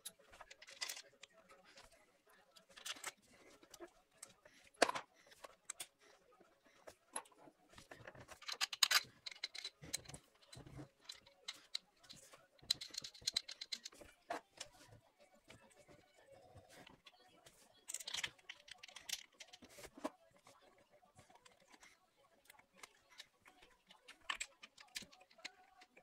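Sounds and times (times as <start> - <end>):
tools and parts clinking: 0.0 - 2.0, 2.6 - 6.1, 6.8 - 14.9, 15.5 - 20.2, 21.2 - 26.0.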